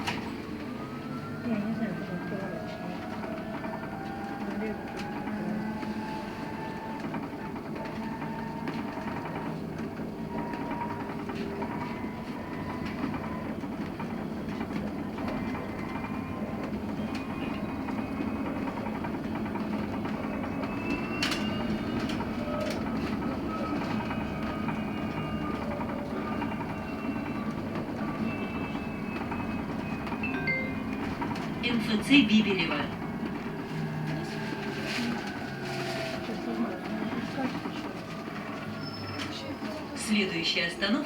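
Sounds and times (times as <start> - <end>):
road and tyre rumble: 0.0 - 41.0.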